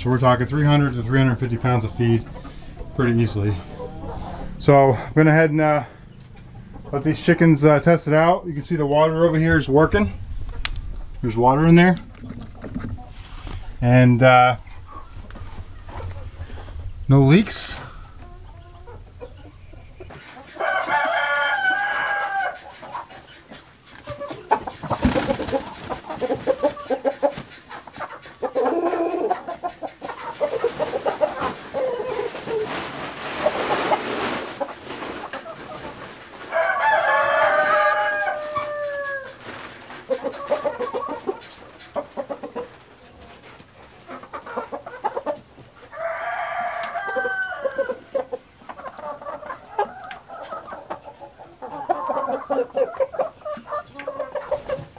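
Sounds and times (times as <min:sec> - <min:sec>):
roosters crowing: 0:00.0 - 0:32.8, 0:35.4 - 0:42.7, 0:44.1 - 0:54.9
hens clucking: 0:00.0 - 0:54.9.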